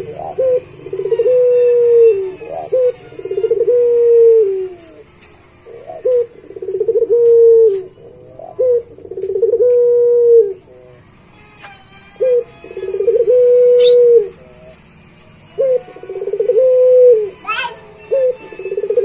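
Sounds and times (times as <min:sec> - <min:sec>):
dove cooing: 0:00.0 - 0:11.1, 0:12.1 - 0:14.8, 0:15.4 - 0:19.0.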